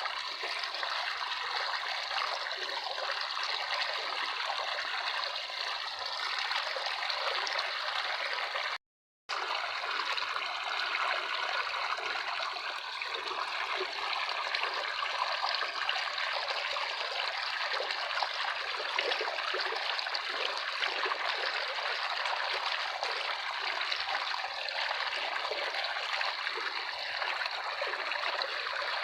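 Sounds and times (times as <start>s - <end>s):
water trickling: 0.0s - 29.0s.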